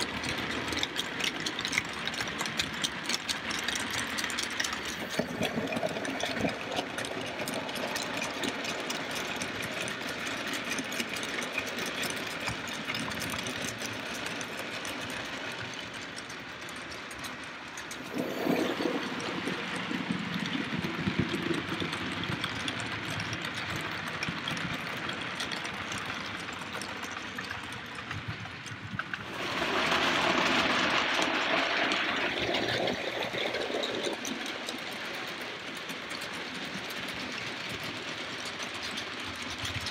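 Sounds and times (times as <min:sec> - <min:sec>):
model train wheels clattering: 0:00.0 - 0:39.9.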